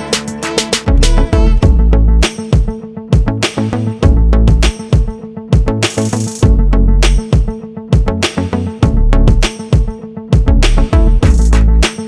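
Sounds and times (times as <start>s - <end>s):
music with drums and bass: 0.0s - 12.0s.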